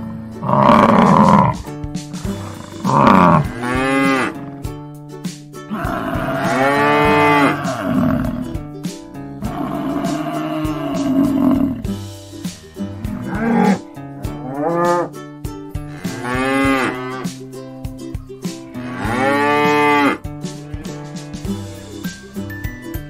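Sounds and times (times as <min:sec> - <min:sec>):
water buffalo lowing: 0:00.0 - 0:04.7, 0:05.7 - 0:08.6, 0:09.2 - 0:15.2, 0:15.8 - 0:17.4, 0:18.6 - 0:22.2
cheerful background music: 0:00.0 - 0:23.0.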